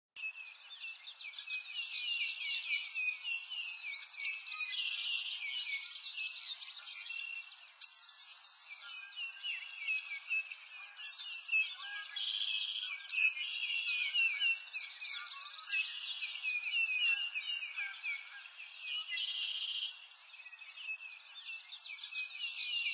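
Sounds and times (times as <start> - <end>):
songbirds chirping and twittering: 0.2 - 22.9.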